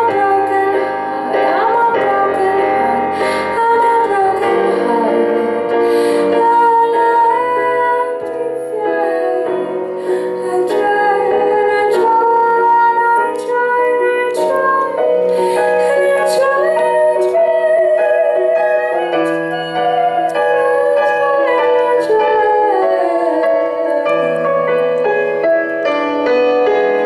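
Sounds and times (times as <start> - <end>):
woman singing: 0.0 - 26.0
sustained keyboard chords: 0.0 - 27.0.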